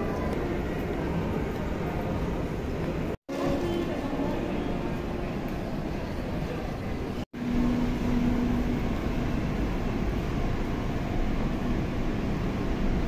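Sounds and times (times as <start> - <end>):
indoor mall rumble and hiss: 0.0 - 13.0.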